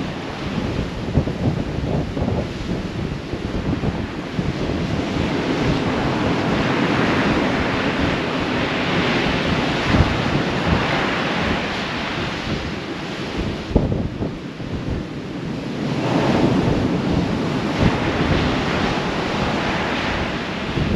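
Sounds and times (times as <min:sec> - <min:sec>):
surf breaking on shore: 0:00.0 - 0:20.9
wind buffeting microphone: 0:00.0 - 0:20.9.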